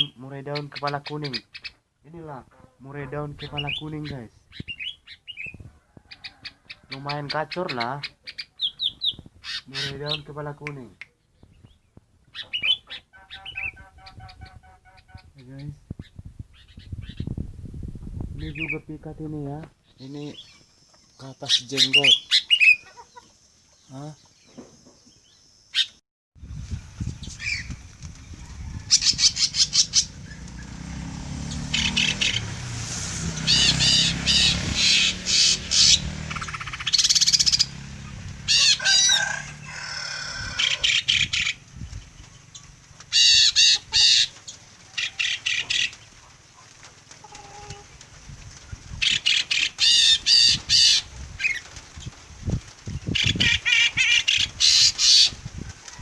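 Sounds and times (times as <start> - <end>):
songbirds chattering trills: 0.0 - 17.4, 18.4 - 26.0, 26.9 - 56.0.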